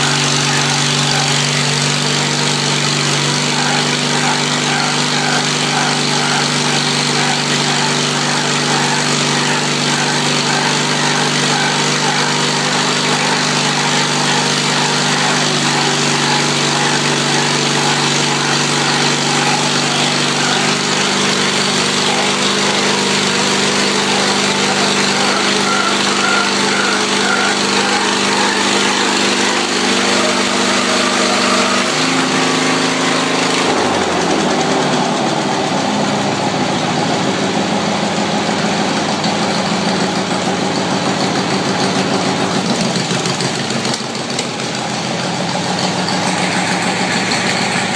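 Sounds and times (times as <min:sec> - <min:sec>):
garden tractor engine running: 0:00.0 - 0:47.9.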